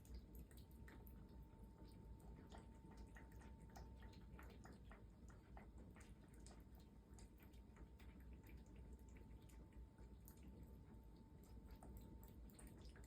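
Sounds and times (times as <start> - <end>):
cats chewing food: 0.0 - 13.0.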